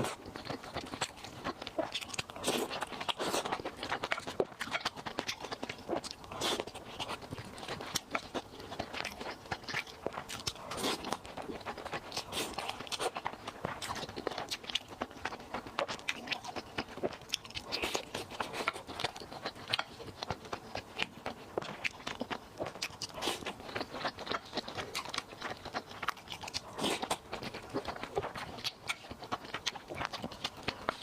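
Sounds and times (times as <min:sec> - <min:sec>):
person chewing crunchy food: 0:00.0 - 0:31.0.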